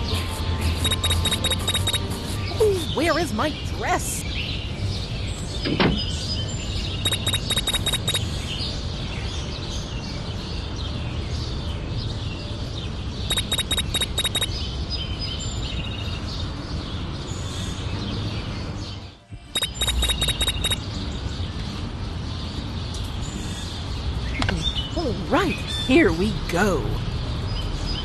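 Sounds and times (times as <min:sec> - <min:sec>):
birds chirping: 0:00.7 - 0:28.0.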